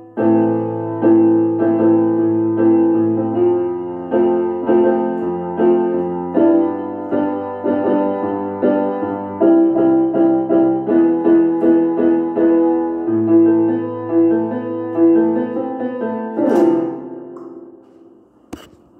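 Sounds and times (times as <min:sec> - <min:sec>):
electronic keyboard piano chords: 0:00.0 - 0:18.4.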